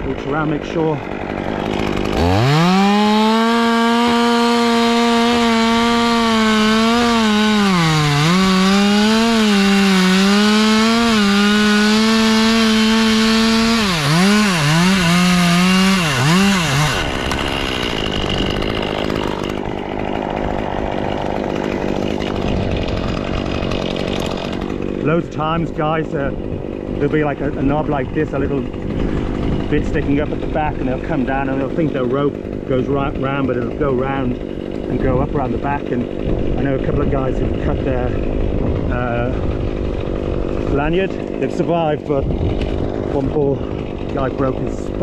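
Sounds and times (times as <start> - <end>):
chainsaw cutting wood: 0.0 - 45.0.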